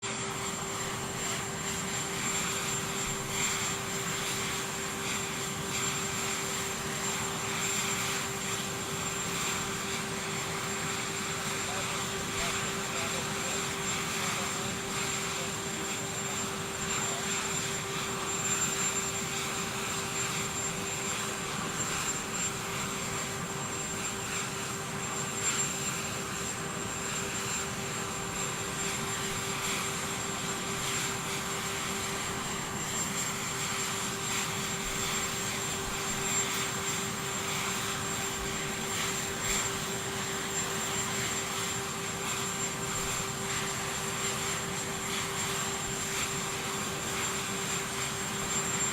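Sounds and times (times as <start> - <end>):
high engine whine: 0.0 - 48.8
aircraft engines humming: 0.0 - 48.9.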